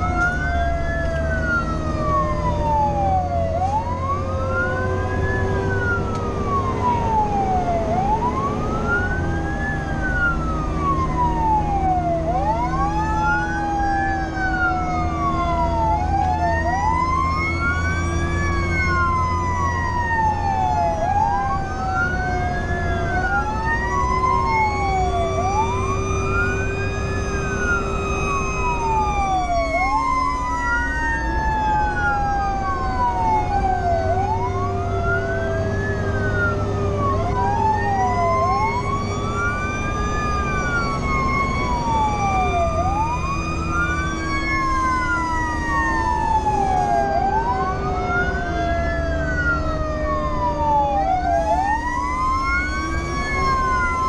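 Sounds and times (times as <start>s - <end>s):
electronic siren wailing: 0.0s - 54.0s
truck engine rumbling: 0.0s - 54.0s.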